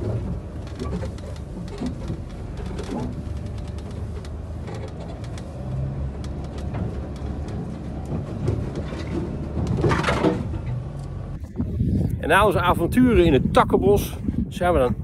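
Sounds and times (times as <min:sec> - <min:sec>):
car rumbling on sandy track: 0:00.0 - 0:15.0.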